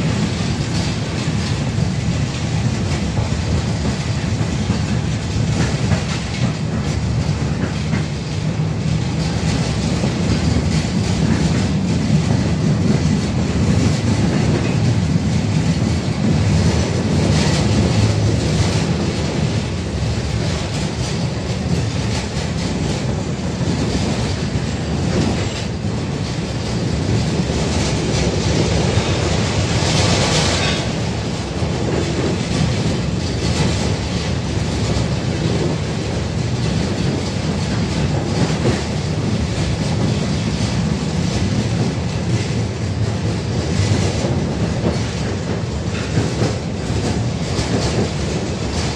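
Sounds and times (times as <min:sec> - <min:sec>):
tram wheels rumbling on rails: 0:00.0 - 0:48.9.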